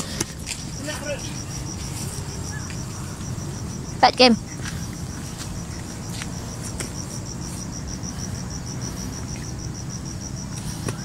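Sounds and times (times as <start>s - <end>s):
insect pulsing call: 0.0s - 11.0s.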